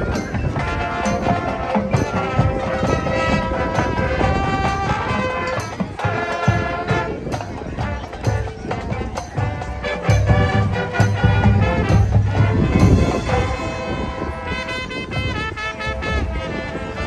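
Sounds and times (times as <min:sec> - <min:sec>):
drumline beat: 0:00.0 - 0:13.9
brass sustained chords: 0:00.0 - 0:17.0
marching band playing: 0:00.0 - 0:17.0.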